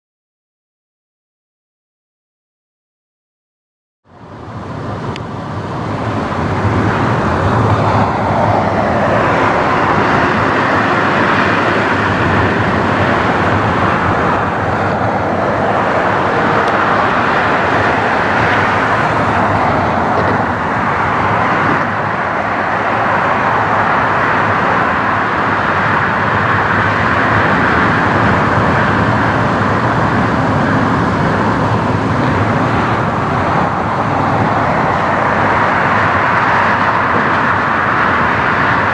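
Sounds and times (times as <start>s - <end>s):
jet engines running: 4.1s - 38.9s.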